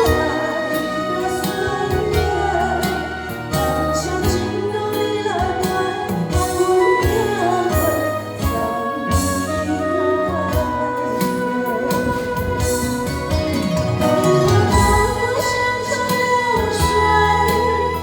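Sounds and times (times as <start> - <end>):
band playing pop song: 0.0 - 18.0
person singing: 0.0 - 18.0.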